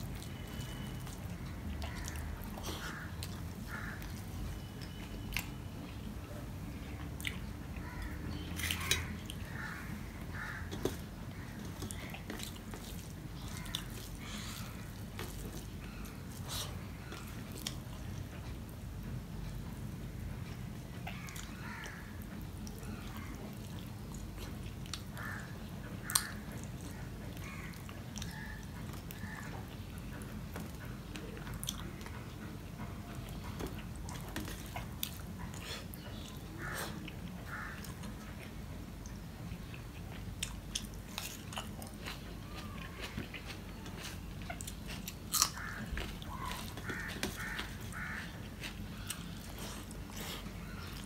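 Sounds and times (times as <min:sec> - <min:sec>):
man chewing food: 0:00.0 - 0:51.0
steady low hum: 0:00.0 - 0:51.0.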